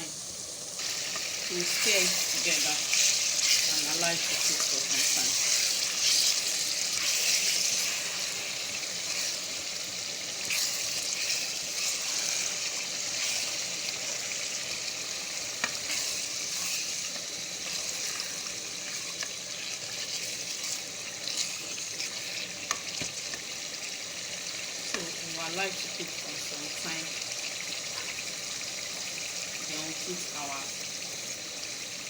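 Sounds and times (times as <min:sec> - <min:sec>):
stew sizzling in oil: 0:00.0 - 0:32.0.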